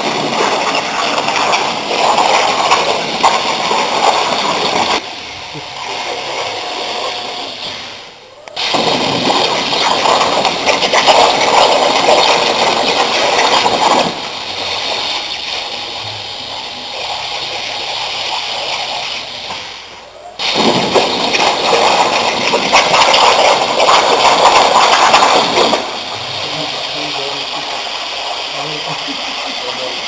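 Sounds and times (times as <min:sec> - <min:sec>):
plasma torch arc hissing: 0:00.0 - 0:30.0.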